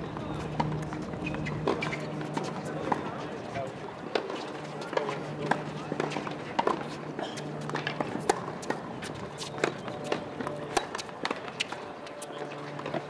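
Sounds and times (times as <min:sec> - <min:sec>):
footsteps on court: 0:00.0 - 0:13.0.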